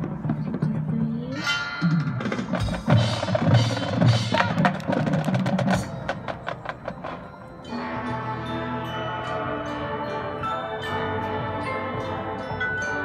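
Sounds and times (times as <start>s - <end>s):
marching band held chord: 2.0s - 13.0s.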